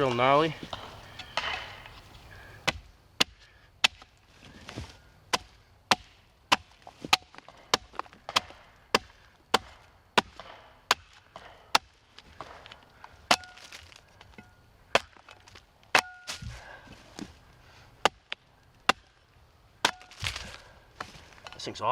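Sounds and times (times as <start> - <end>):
axe chopping log: 0.0 - 17.3, 18.0 - 19.2, 19.8 - 21.2.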